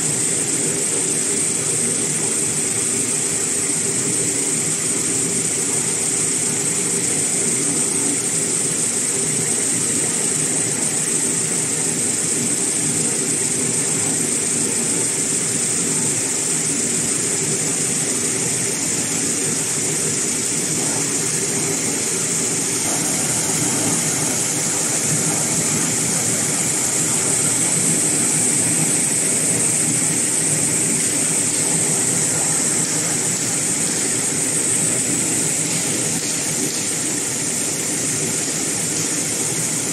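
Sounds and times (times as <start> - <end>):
high-pitched machine whine: 0.0 - 39.9
paper making machine running: 0.1 - 39.9.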